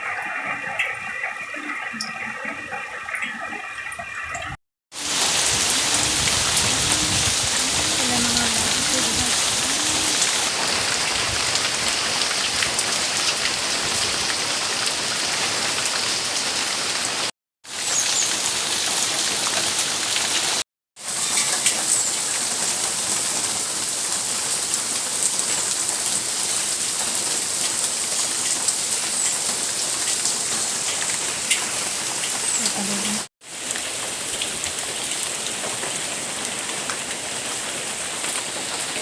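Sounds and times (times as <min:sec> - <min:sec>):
steady rain falling: 0:04.9 - 0:39.0.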